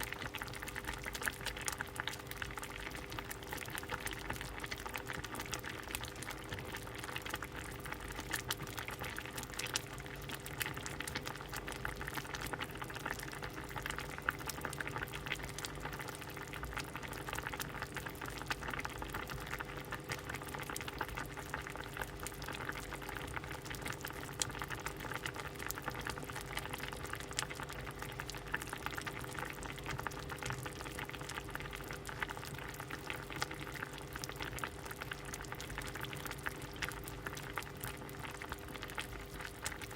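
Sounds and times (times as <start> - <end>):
faint steady hum: 0.0 - 39.9
soup bubbling in a pot: 0.0 - 39.9.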